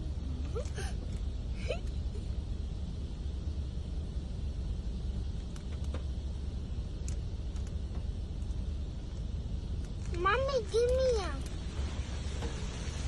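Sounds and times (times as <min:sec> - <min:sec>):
car wash rumble and hiss: 0:00.0 - 0:13.0.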